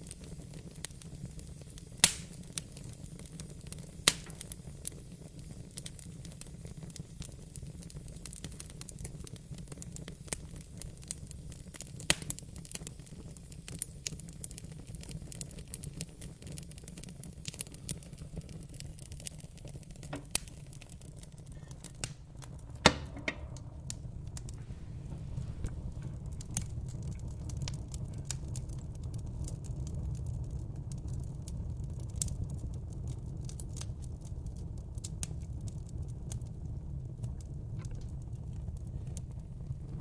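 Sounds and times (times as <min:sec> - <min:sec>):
low rumble of flames: 0:00.0 - 0:40.0
wood fire crackling: 0:00.0 - 0:40.0.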